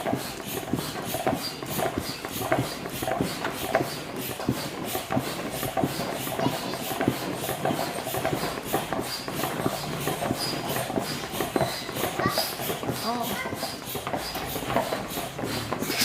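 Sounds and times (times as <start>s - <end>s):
rhythmic mechanical clatter: 0.0s - 16.0s.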